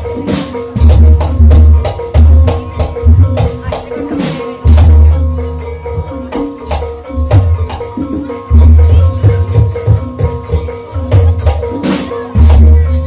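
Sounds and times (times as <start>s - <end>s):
gamelan music: 0.0s - 13.0s
held metallophone tones: 0.0s - 13.0s.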